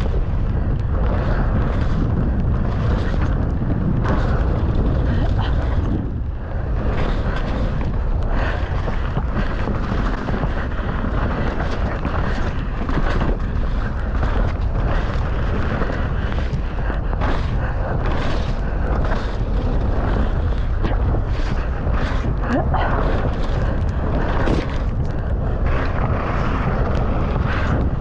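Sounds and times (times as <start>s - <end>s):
bike rattling and knocking: 0.0s - 28.0s
wind buffeting microphone: 0.0s - 28.0s.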